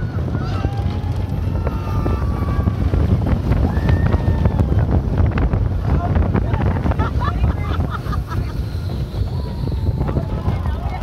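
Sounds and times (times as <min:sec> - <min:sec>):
roller coaster rumble: 0:00.0 - 0:11.0
wind rushing over microphone: 0:00.0 - 0:11.0.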